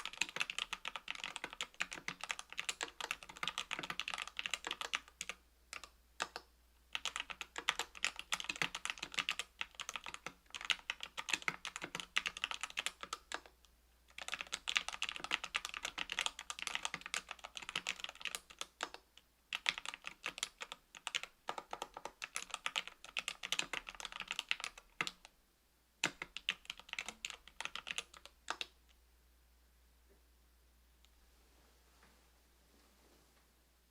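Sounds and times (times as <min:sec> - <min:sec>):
typing on mechanical keyboard: 0:00.0 - 0:13.5, 0:14.1 - 0:25.3, 0:26.0 - 0:28.8.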